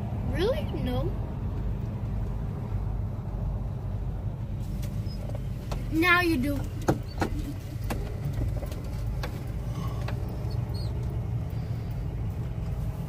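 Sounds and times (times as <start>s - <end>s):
road noise: 0.0s - 13.0s
vehicle engine low rumble: 0.0s - 13.0s.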